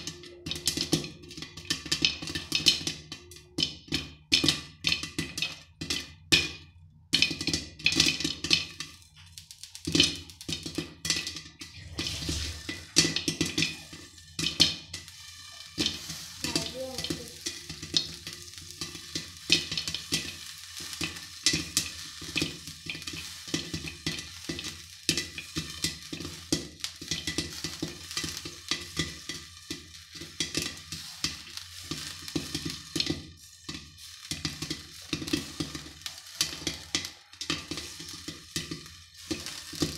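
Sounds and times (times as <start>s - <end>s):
oil sizzling: 0.0s - 39.9s
popcorn popping: 0.0s - 39.9s.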